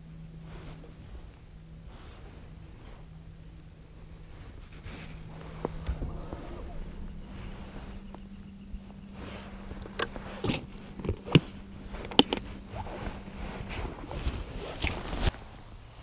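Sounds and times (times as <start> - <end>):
clothing rustling: 0.0 - 15.6
steady low hum: 0.0 - 16.0.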